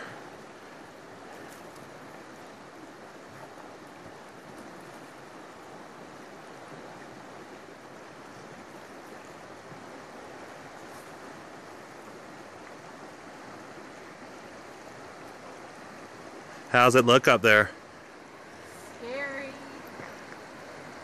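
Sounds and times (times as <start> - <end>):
river water rushing past rocks: 0.0 - 21.0.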